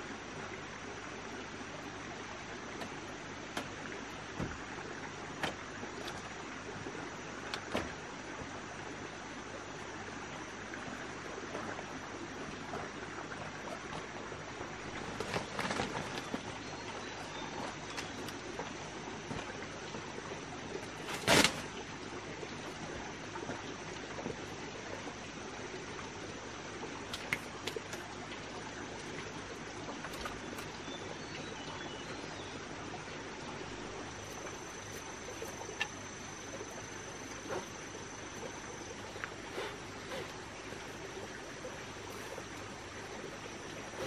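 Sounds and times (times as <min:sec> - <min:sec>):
rainforest background hiss: 0:00.0 - 0:44.0.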